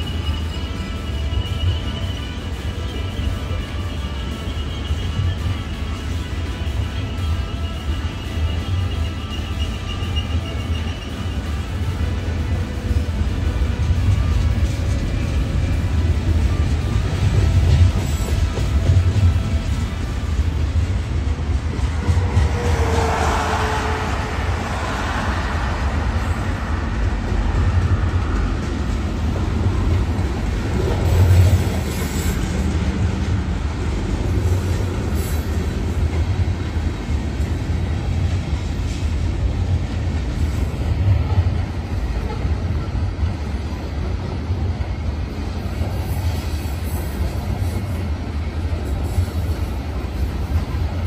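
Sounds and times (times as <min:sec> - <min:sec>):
train clanks: 0:00.0 - 0:51.0
train wheels rumbling on rail: 0:00.0 - 0:51.0.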